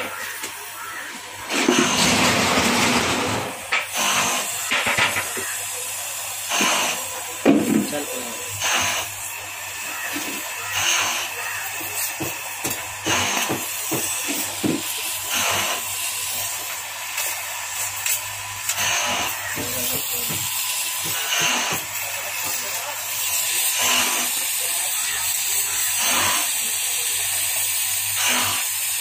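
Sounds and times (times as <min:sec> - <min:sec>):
blowtorch flame hissing: 0:00.0 - 0:29.0.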